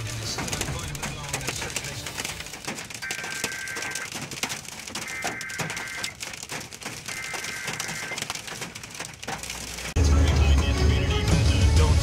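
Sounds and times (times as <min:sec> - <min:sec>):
rain ticking on a truck: 0:00.0 - 0:10.8.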